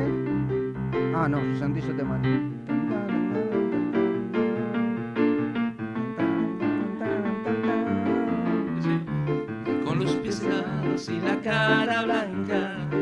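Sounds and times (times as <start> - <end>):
bouncy piano keyboard music: 0.0 - 13.0.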